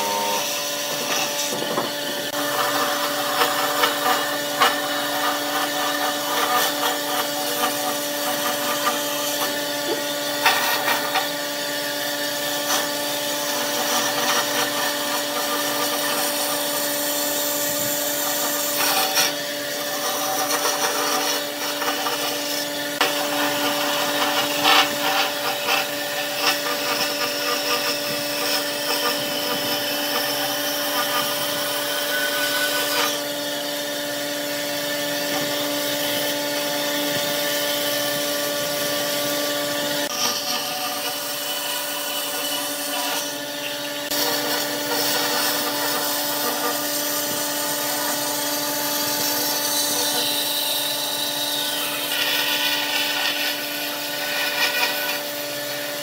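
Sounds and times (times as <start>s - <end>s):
bandsaw motor hum: 0.0s - 56.0s
saw blade cutting wood: 0.0s - 56.0s.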